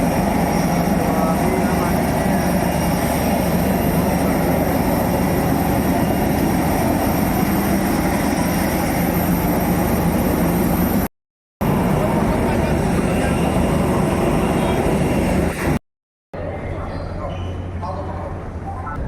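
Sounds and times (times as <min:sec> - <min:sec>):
airliner cabin hum and hiss: 0:00.0 - 0:15.8.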